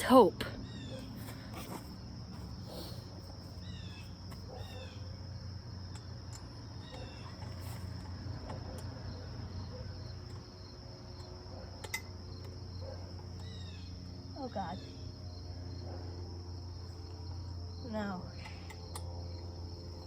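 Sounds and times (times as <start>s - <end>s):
crickets trilling: 0.0s - 20.0s
low steady hum: 0.0s - 20.0s.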